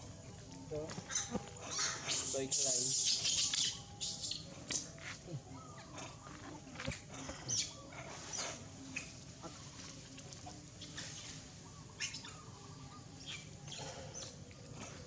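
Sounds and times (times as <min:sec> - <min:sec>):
faint animal calls: 0:01.0 - 0:15.0.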